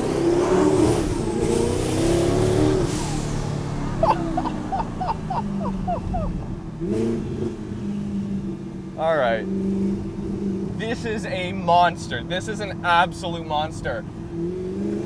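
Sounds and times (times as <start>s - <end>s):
car engine revving: 0.0s - 11.7s, 14.1s - 15.0s.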